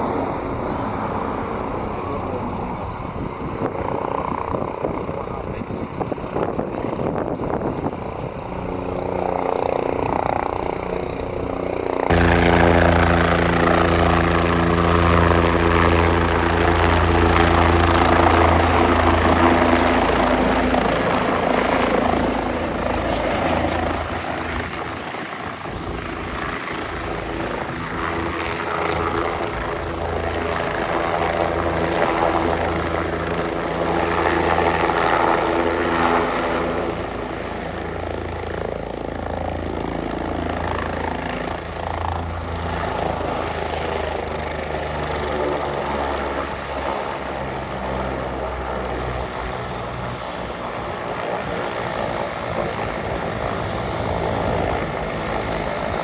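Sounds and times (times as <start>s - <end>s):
helicopter rotor beat: 0.0s - 56.0s
helicopter turbine whine: 0.0s - 56.0s.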